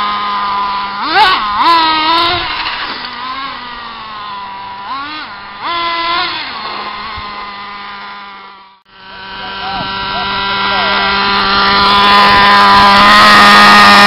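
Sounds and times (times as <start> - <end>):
toy truck motor humming and revving: 0.0 - 14.0.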